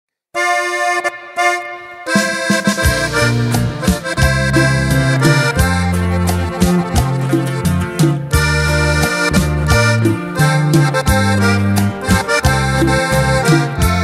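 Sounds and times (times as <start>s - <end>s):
band playing with bass line: 0.4s - 14.0s.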